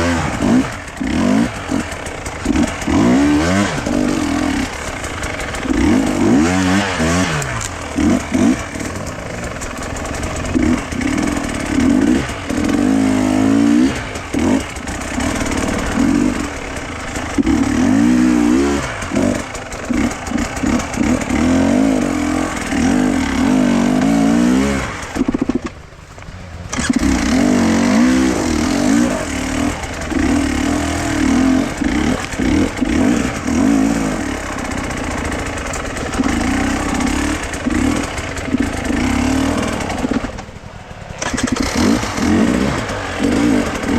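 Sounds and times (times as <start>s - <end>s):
engine revving: 0.0s - 25.8s, 26.6s - 43.9s.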